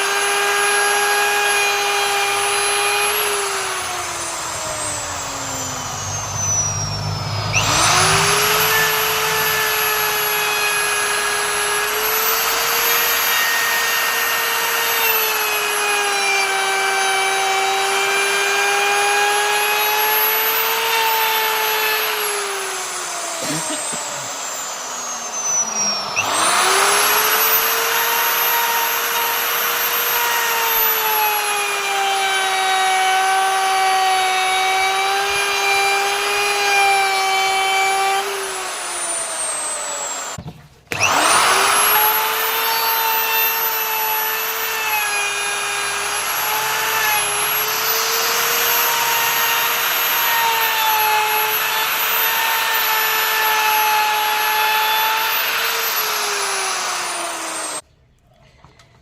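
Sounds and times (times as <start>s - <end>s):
wood router motor whining: 0.0s - 57.9s.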